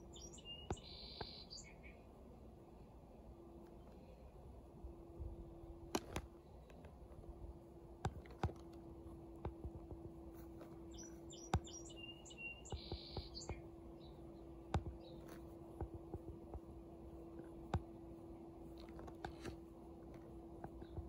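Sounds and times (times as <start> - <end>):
songbird chirping: 0.0 - 6.9, 8.1 - 21.0
faint steady hum: 0.0 - 21.0.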